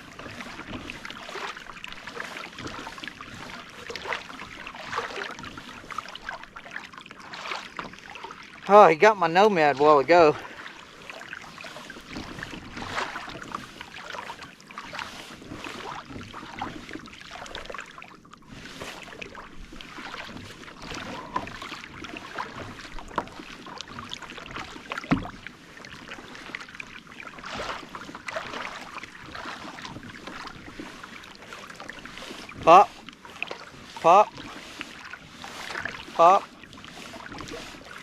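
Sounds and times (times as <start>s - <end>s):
water splashing against kayak hull: 0.0s - 38.0s.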